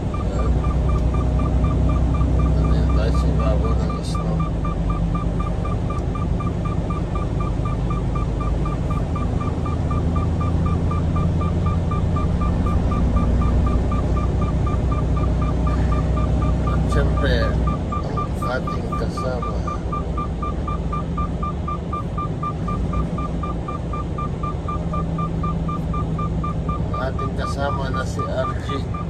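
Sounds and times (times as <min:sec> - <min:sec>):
faint pulsing beeps: 0:00.0 - 0:29.0
truck engine droning: 0:00.0 - 0:29.0.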